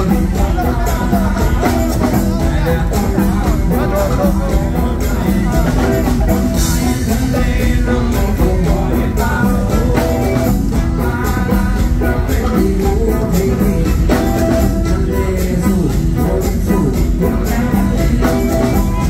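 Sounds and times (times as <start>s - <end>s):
electric guitar: 0.0s - 19.0s
man singing: 0.0s - 19.0s
steady drum beat: 0.0s - 19.0s.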